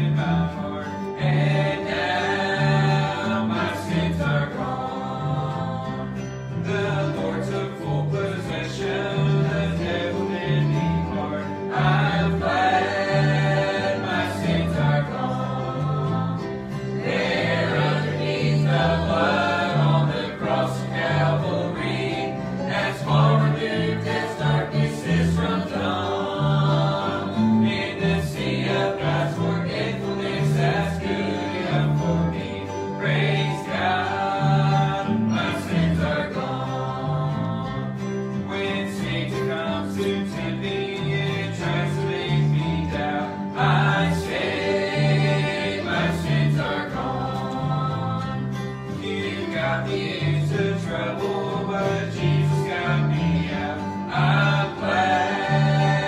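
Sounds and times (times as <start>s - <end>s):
acoustic guitars strummed: 0.0s - 56.0s
people singing: 0.0s - 56.0s.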